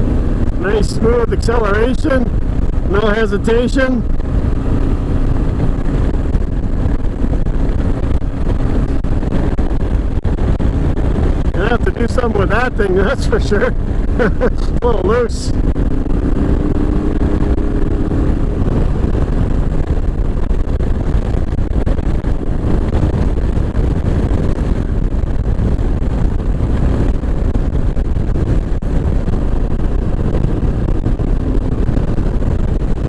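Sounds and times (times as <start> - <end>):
motorcycle engine running: 0.0 - 33.0
wind rush on microphone: 0.0 - 33.0.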